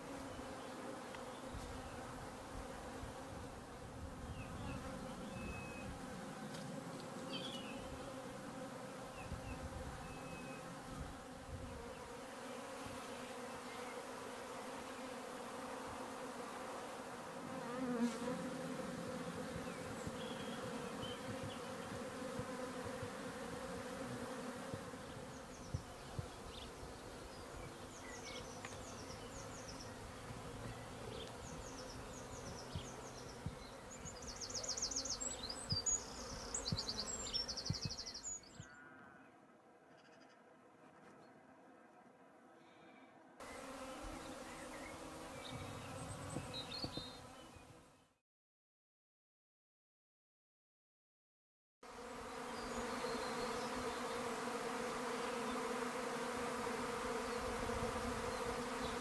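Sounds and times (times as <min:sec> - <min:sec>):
bee swarm humming: 0:00.0 - 0:38.2, 0:43.4 - 0:47.7, 0:51.9 - 0:59.0.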